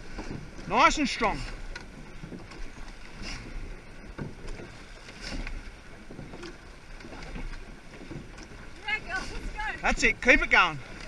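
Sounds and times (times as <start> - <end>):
oar stroke knocks: 0.0 - 11.0
water rushing past hull: 0.0 - 11.0
wind buffeting microphone: 0.0 - 11.0.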